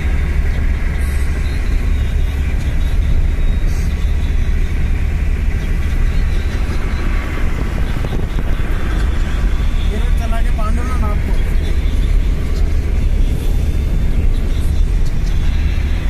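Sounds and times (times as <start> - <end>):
car cruising on highway interior: 0.0 - 16.0.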